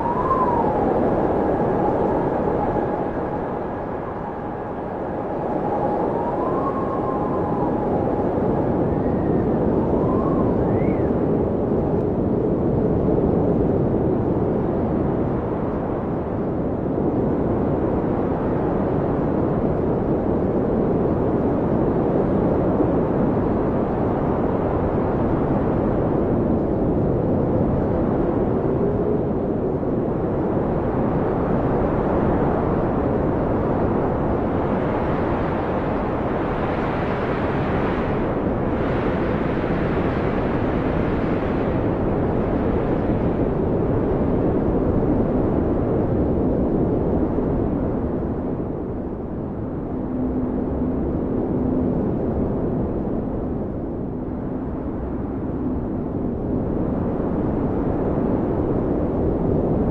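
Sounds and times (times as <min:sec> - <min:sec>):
blizzard wind rumbling and howling: 0:00.0 - 0:59.9.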